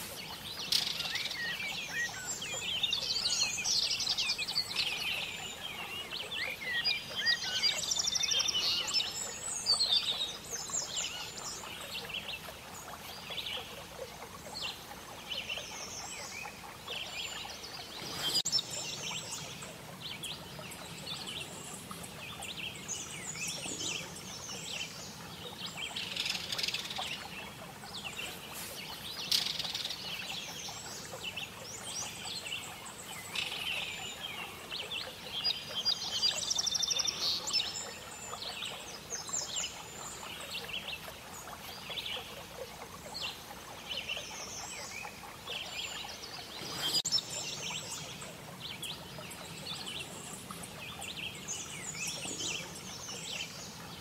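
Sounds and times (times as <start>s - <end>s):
songbirds chirping and trilling: 0.0s - 54.0s
steady background hiss: 0.0s - 54.0s.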